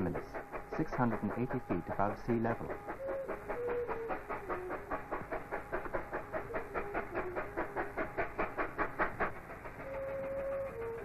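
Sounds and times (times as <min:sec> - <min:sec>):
steam locomotive chuffing: 0:00.0 - 0:11.0.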